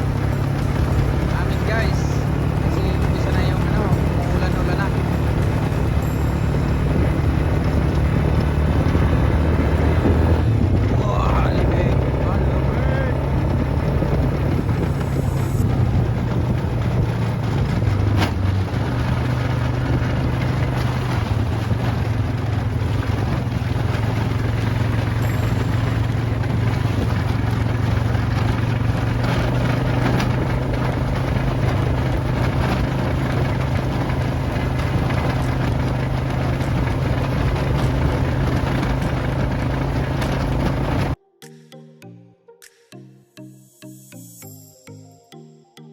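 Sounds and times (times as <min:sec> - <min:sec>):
vehicle engine humming: 0:00.0 - 0:41.2.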